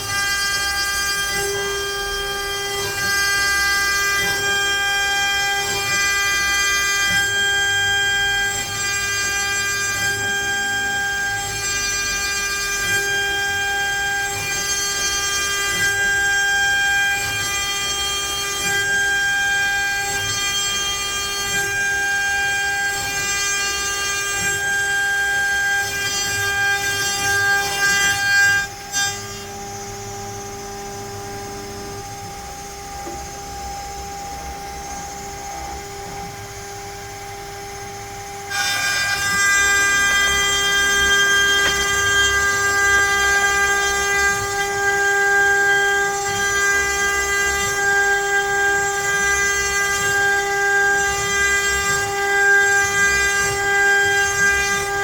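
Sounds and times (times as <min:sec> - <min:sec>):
router spindle whining: 0:00.0 - 0:27.8, 0:28.6 - 0:55.0.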